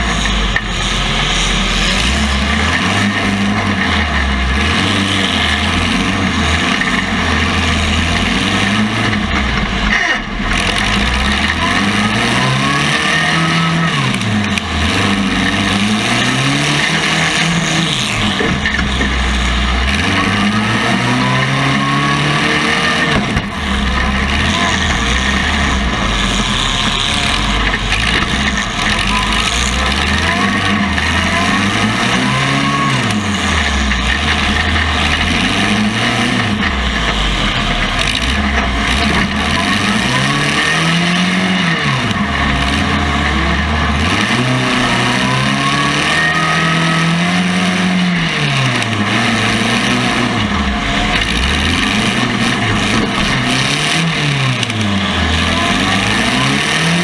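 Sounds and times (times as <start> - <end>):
car engines revving: 0.0 - 57.0
steady background din: 0.0 - 57.0.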